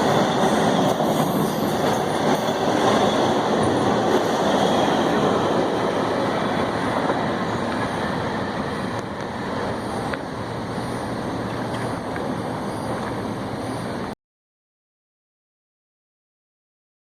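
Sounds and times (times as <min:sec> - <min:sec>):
freight train wheels rumbling: 0:00.0 - 0:14.2.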